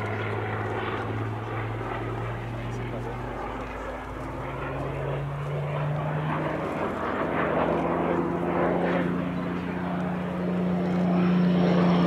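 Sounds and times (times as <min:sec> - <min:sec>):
propeller aircraft engine overhead: 0:00.0 - 0:12.0.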